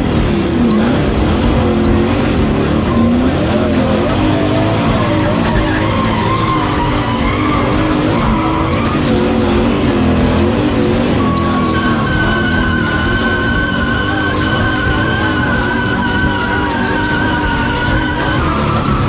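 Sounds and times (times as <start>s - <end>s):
race car engine revving: 0.0s - 19.0s
tyres spinning and skidding: 0.0s - 19.0s.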